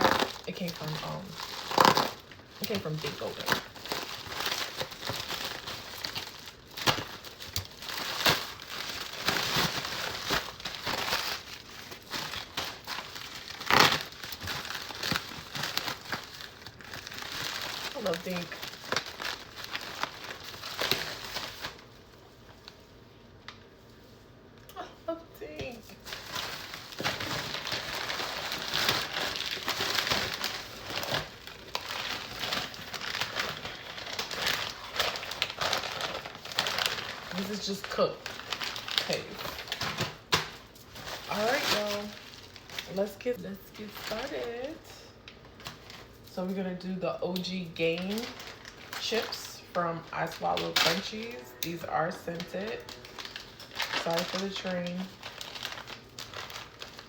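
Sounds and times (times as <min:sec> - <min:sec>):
plastic packaging crinkling: 0:00.0 - 0:57.0.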